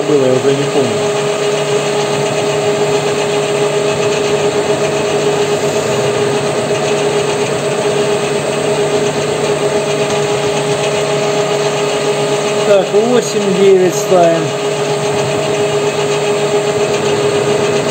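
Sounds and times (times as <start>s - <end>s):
cutter planing steel: 0.0s - 17.9s
metal lathe whining: 0.0s - 17.9s.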